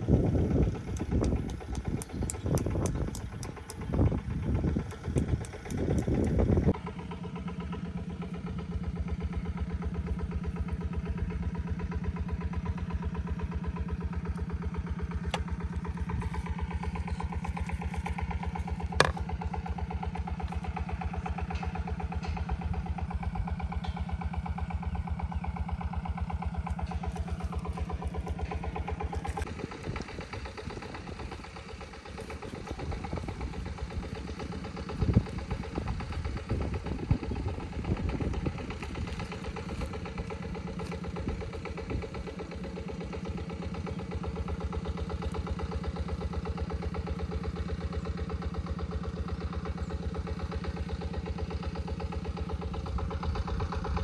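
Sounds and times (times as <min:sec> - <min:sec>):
engine running with rapid pulse: 0:00.0 - 0:54.0.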